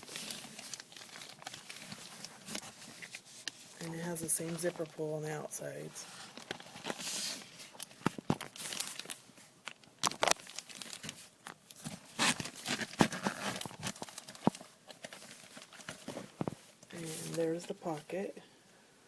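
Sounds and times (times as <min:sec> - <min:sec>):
handbag crinkling rustles: 0:00.0 - 0:05.4, 0:06.0 - 0:09.3, 0:10.0 - 0:18.3.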